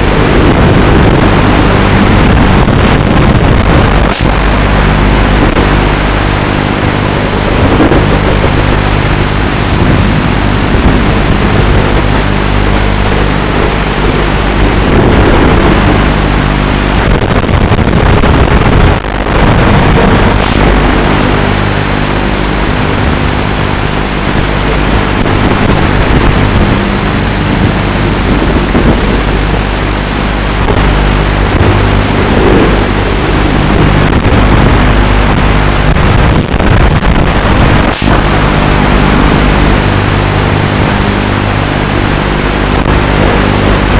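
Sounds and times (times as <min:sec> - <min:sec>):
quadcopter propellers buzzing: 0:00.0 - 0:43.9.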